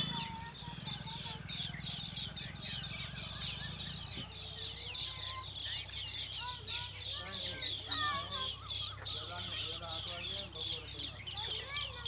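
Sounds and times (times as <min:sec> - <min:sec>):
birds chirping rapidly: 0:00.0 - 0:12.0.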